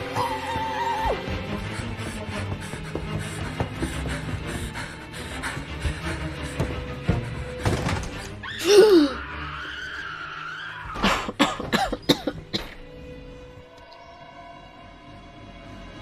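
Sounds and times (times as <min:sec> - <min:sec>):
film soundtrack music: 0:00.0 - 0:16.0.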